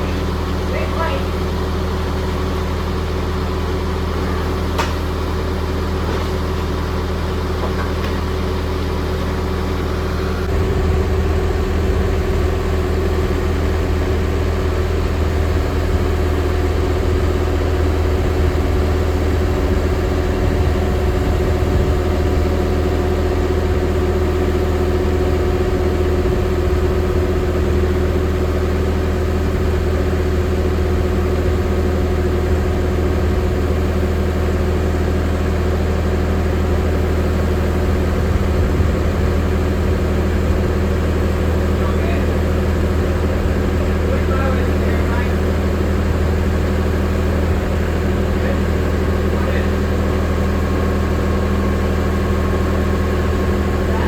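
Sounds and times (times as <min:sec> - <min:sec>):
machinery humming: 0:00.0 - 0:54.0.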